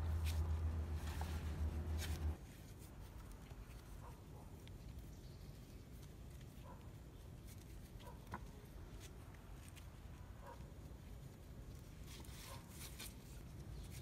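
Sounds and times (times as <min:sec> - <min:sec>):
low hum with rustling: 0:00.0 - 0:14.0.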